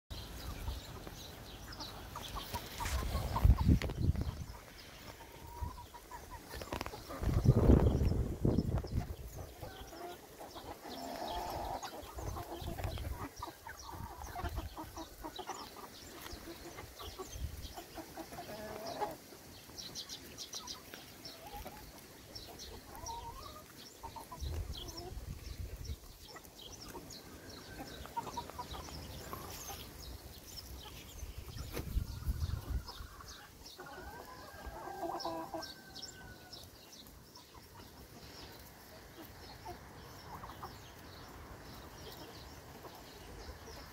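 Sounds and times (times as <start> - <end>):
hens clucking: 0.2 - 43.9.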